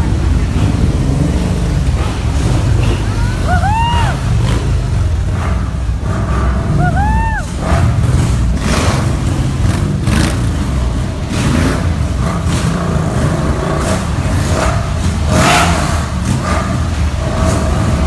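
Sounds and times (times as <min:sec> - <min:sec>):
motorcycle engines rumbling and revving: 0:00.0 - 0:18.0.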